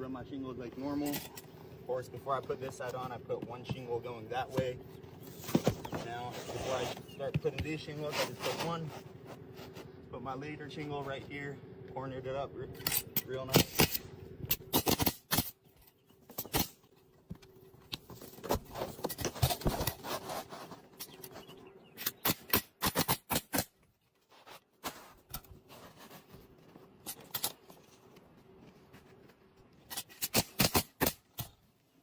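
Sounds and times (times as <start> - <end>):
shingles clicking and scraping: 0.9 - 9.8, 12.8 - 32.0.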